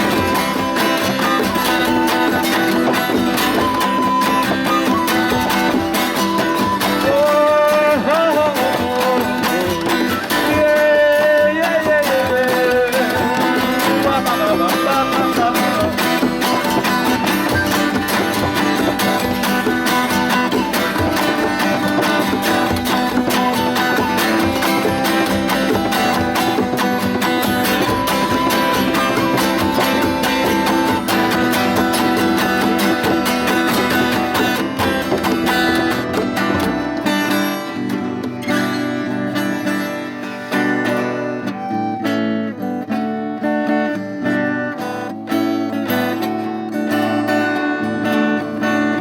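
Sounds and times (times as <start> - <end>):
acoustic guitar music: 0.0 - 49.0.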